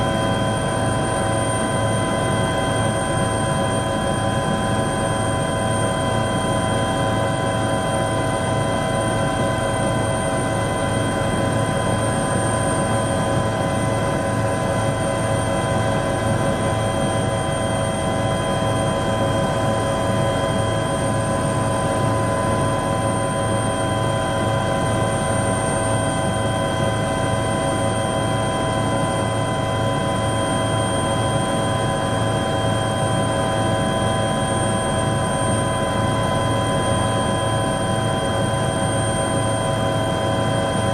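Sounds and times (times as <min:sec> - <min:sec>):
helicopter engine and rotor rumble: 0:00.0 - 0:40.9.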